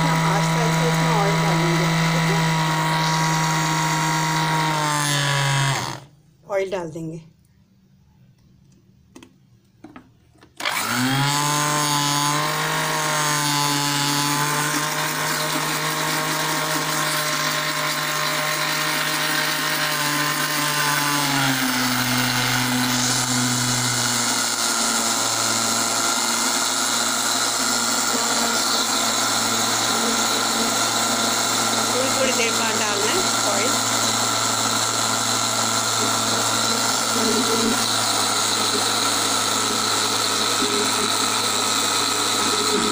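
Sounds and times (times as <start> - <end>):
electric blender running: 0.0 - 6.2, 9.8 - 42.9.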